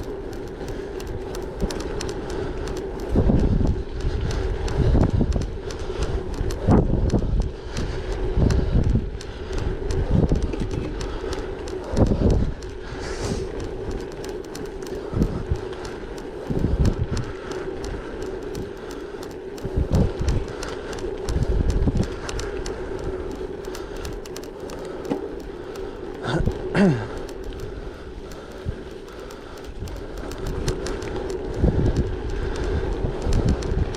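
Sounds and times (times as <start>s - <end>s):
bike tyres rolling on gravel: 0.0s - 33.9s
stones ticking: 0.0s - 33.9s
wind on microphone: 0.0s - 33.9s.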